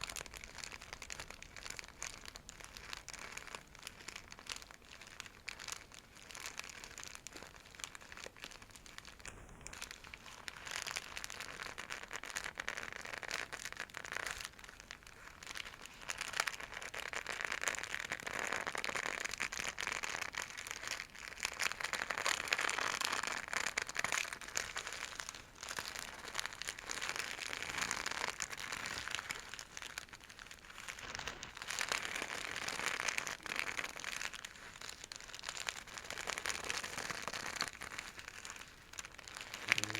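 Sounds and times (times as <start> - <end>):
silk bag crinkling: 0.0 - 39.9.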